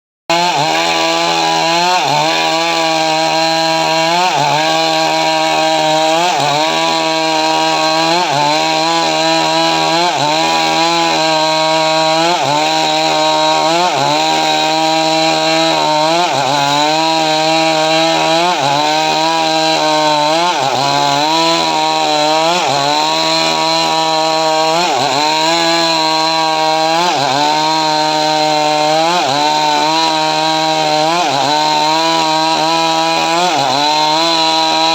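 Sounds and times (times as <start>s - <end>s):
chainsaw cutting wood: 0.3s - 34.9s.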